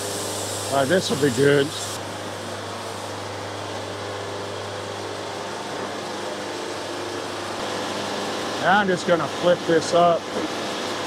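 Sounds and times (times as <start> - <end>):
band sawmill humming and whirring: 0.0 - 11.0.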